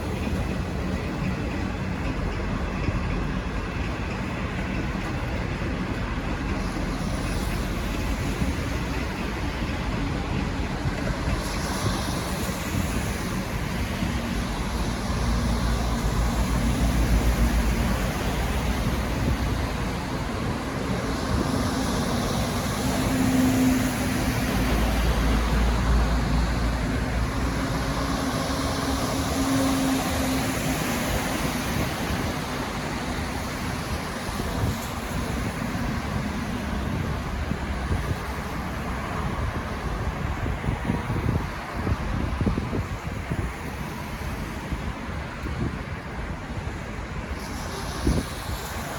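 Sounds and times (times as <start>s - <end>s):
diesel locomotive engine rumbling: 0.0s - 48.9s.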